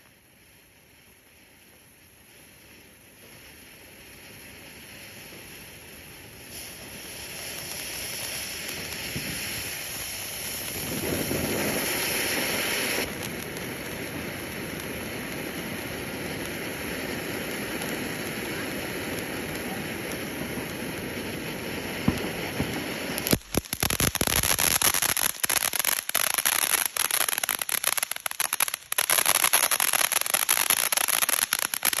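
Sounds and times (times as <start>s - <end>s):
firework fountain hissing and crackling: 0.0s - 32.0s.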